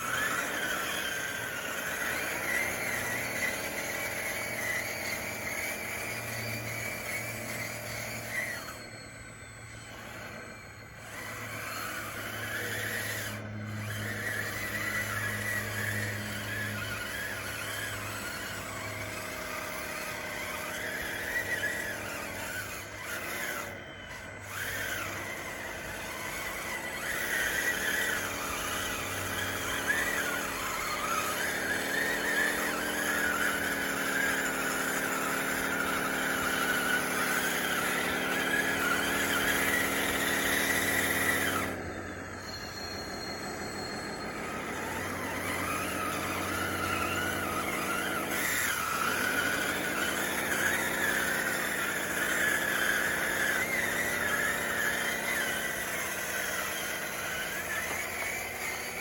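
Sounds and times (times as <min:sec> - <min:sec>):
toy bulldozer motors whining: 0:00.0 - 0:59.0.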